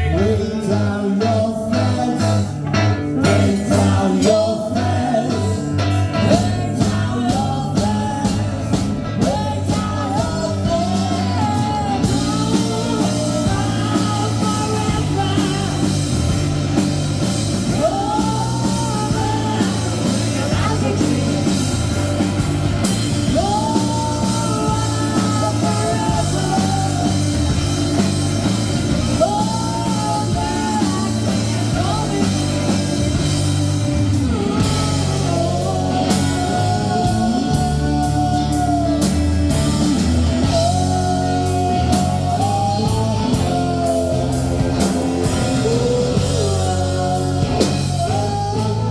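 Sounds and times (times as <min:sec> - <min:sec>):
person singing: 0:00.0 - 0:48.9
rock band playing: 0:00.0 - 0:48.9
steady bass: 0:00.0 - 0:48.9.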